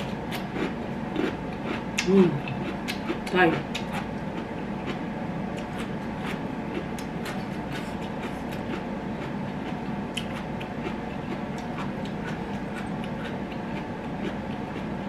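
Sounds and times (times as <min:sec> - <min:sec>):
person chewing vegetables: 0:00.0 - 0:15.0
steady low hum: 0:00.0 - 0:15.0.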